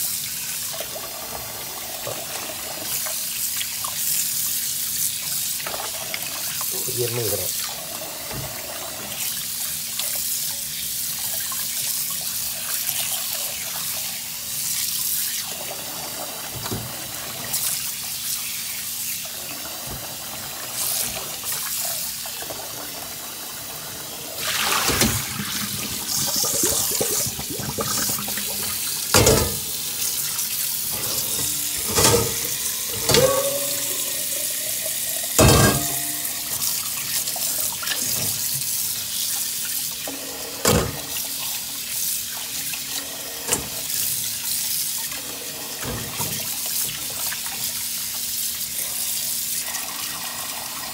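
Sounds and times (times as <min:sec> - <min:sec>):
tap water running into metal pot: 0:00.0 - 0:50.9.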